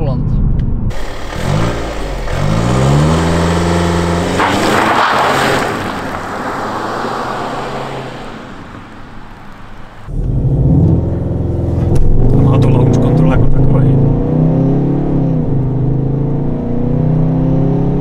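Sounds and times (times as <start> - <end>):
car engine revving: 0.9 - 18.0
car pulling away: 0.9 - 18.0.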